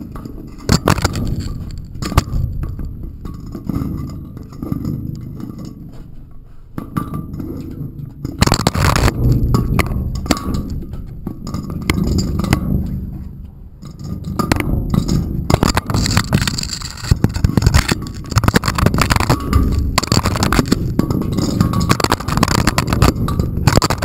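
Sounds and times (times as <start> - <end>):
camera handling rumble: 0.0 - 5.7, 8.2 - 13.0, 13.9 - 24.0
burst of knocking and scraping: 0.0 - 24.0
clicks clinks and scrapes: 0.0 - 24.0.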